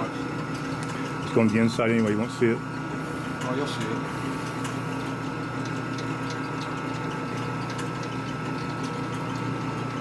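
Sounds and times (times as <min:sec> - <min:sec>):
milling machine humming: 0:00.0 - 0:10.0.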